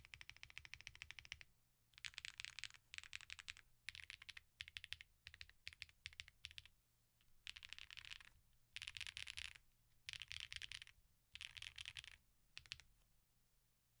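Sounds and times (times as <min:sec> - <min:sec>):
mechanical keyboard typing: 0:00.0 - 0:01.4, 0:02.0 - 0:06.7, 0:07.5 - 0:12.9.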